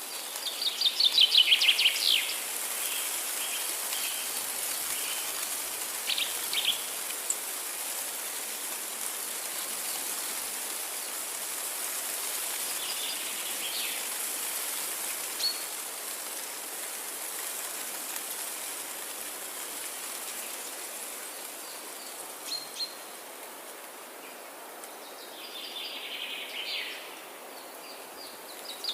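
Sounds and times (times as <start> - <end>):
steady high hiss: 0.0 - 28.9.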